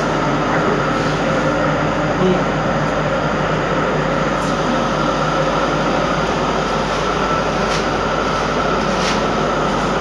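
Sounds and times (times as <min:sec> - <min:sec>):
flour mill machinery droning: 0:00.0 - 0:10.0.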